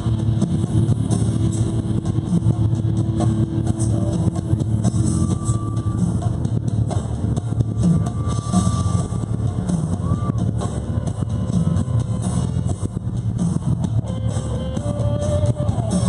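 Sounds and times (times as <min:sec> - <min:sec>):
loud music with heavy bass beat: 0:00.0 - 0:16.0.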